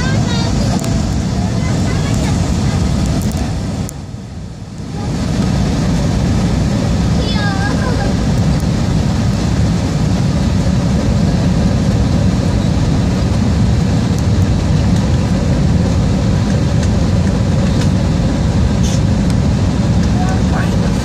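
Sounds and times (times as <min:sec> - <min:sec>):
airplane engine and airflow rumble: 0:00.0 - 0:21.0.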